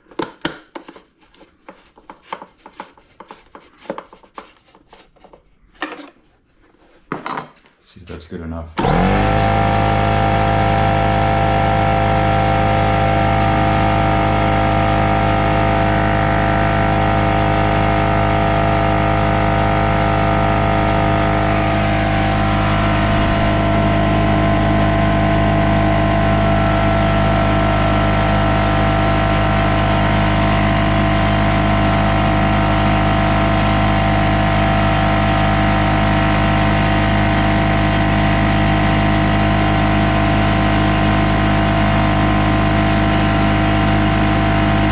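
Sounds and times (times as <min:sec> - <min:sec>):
air compressor running: 0:08.8 - 0:44.9.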